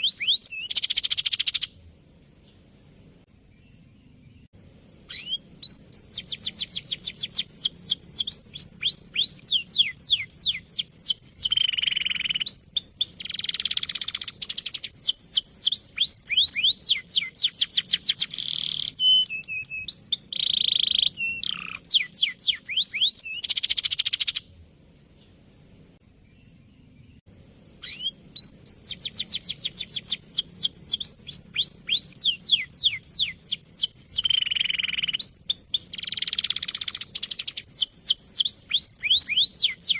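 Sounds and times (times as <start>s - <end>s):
canary singing trills: 0.0s - 2.7s, 3.4s - 25.4s, 26.2s - 39.9s.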